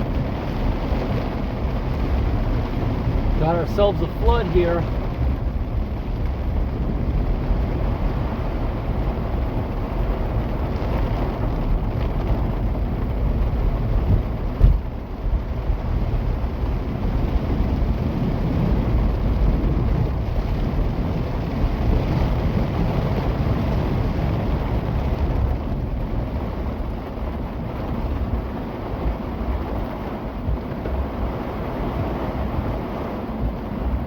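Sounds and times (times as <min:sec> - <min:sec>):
engine and road rumble: 0:00.0 - 0:34.0
wind noise: 0:00.0 - 0:34.0.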